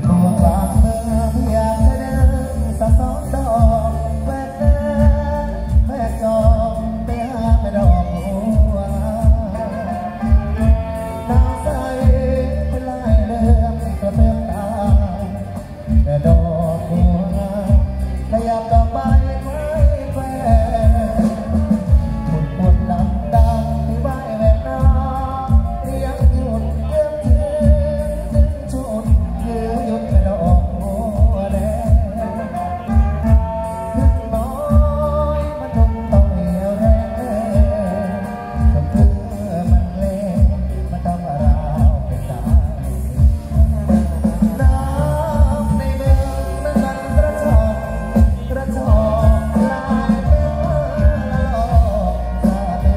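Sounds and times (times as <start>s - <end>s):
song with heavy bass beat: 0.0s - 52.9s.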